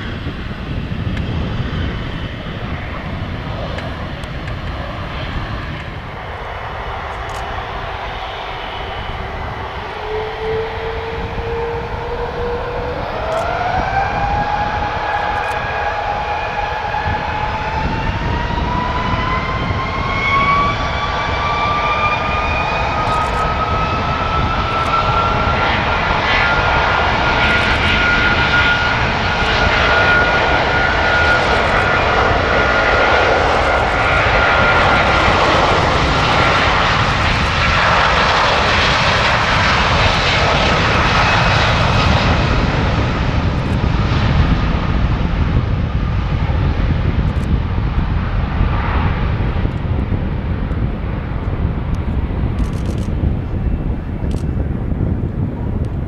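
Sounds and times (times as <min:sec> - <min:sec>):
jet engines whining: 0:00.0 - 0:56.0
jet roar: 0:00.0 - 0:56.0.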